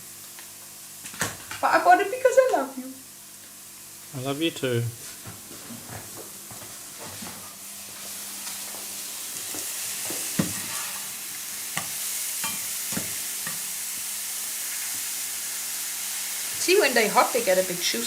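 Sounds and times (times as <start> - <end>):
mushrooms sizzling in a pan: 0.0 - 5.2, 6.3 - 18.0.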